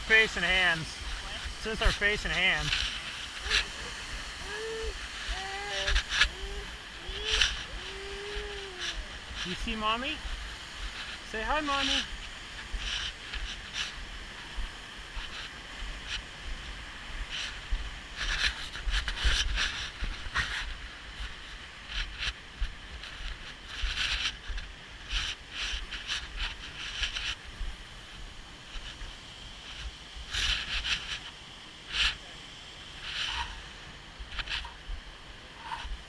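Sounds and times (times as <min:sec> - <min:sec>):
rushing falling water: 0:00.0 - 0:36.0.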